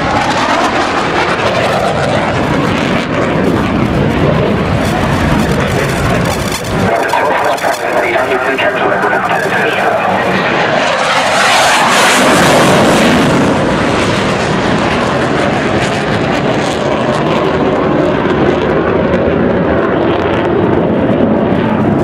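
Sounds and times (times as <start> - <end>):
jet fighter flying past: 0.0 - 22.0.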